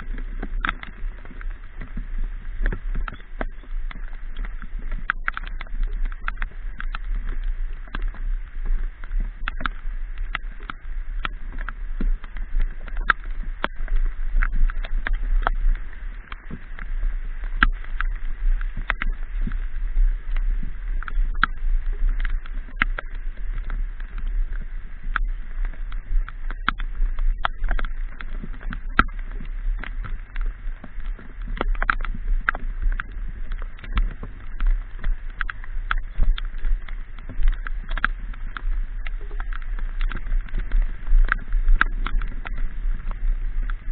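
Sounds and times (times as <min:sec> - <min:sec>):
raindrops tapping on camera: 0:00.0 - 0:43.9
wind rumble on microphone: 0:00.0 - 0:43.9.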